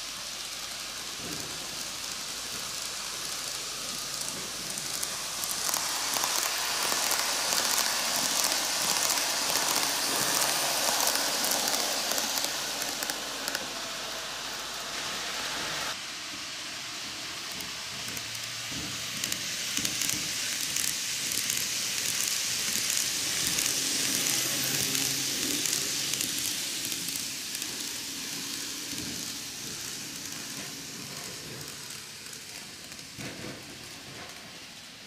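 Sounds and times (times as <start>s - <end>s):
model train hiss: 0.0s - 35.0s
light clicks of model train: 0.1s - 13.7s, 17.4s - 34.9s.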